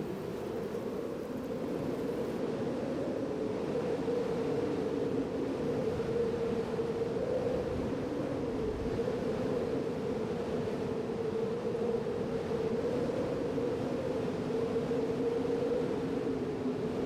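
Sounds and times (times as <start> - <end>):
wind and water hiss: 0.0 - 17.0.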